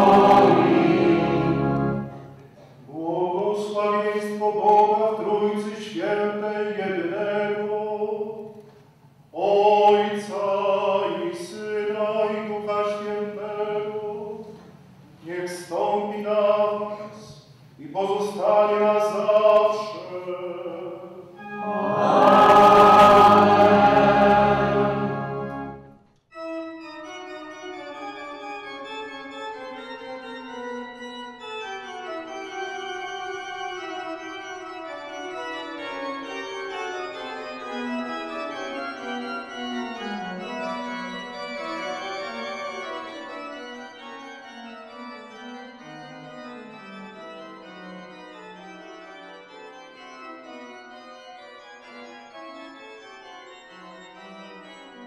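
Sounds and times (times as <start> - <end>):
organ chords: 0.0 - 8.5, 9.1 - 55.0.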